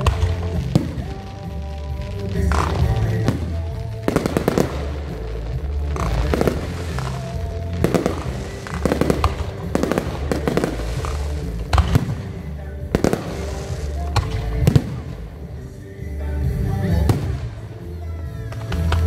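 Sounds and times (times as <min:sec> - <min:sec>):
fireworks bangs and crackles: 0:00.0 - 0:19.0
music with steady bass line: 0:00.0 - 0:19.0.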